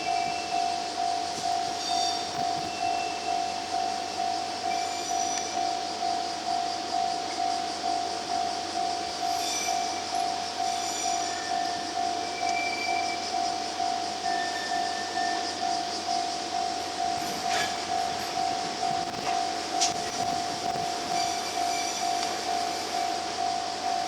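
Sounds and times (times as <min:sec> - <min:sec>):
level crossing bell ringing: 0:00.0 - 0:24.0
track machine running: 0:00.0 - 0:24.0.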